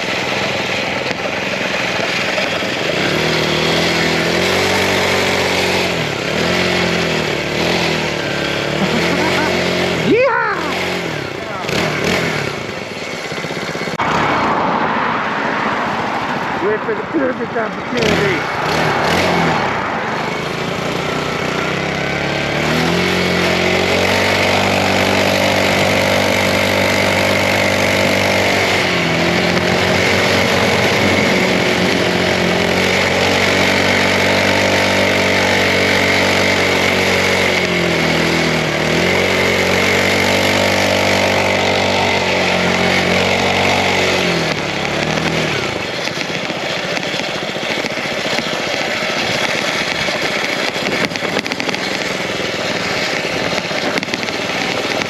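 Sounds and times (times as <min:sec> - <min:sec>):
small engine pulling under throttle: 0:00.0 - 0:55.0
steady rush of noise: 0:07.9 - 0:55.0.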